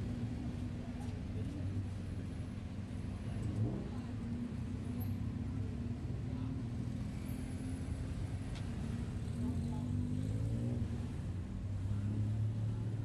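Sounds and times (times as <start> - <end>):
low rumble of car engines: 0.0 - 13.0.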